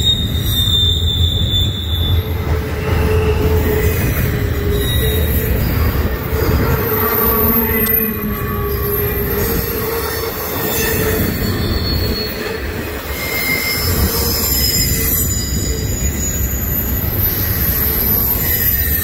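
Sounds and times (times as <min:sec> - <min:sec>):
high-pitched wheel squealing: 0:00.0 - 0:19.0
train wheels rumbling on rail: 0:00.0 - 0:19.0.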